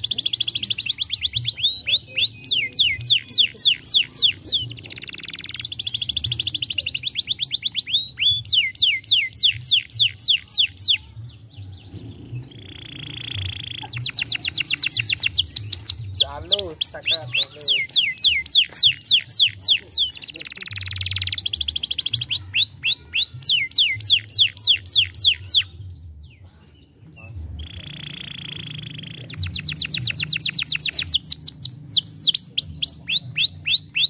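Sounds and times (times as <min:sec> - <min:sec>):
canary singing: 0:00.0 - 0:34.0.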